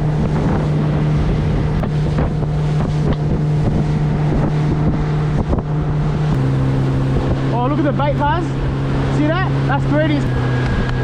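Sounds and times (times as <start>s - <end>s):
outboard motor running: 0.0s - 11.0s
wind buffeting microphone: 0.0s - 11.0s.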